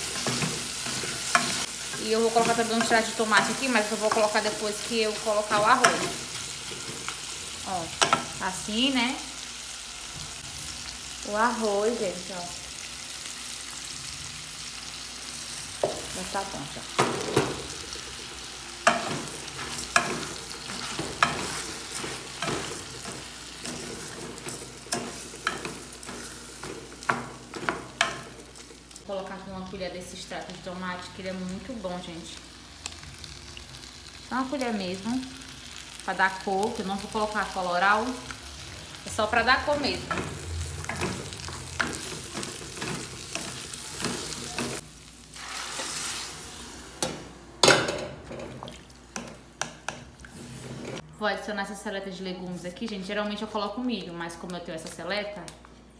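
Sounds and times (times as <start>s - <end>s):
food sizzling in oil: 0.0s - 51.0s.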